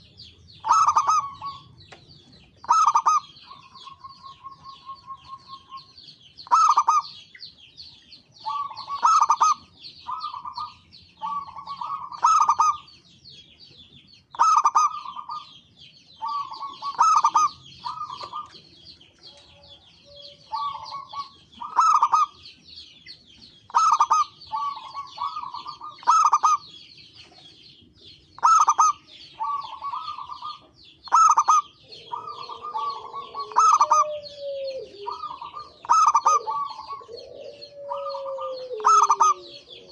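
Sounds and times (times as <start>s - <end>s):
dove cooing: 0.0s - 1.9s, 2.6s - 7.2s, 8.4s - 12.9s, 14.4s - 15.6s, 16.2s - 22.5s, 23.7s - 27.6s, 28.4s - 39.9s.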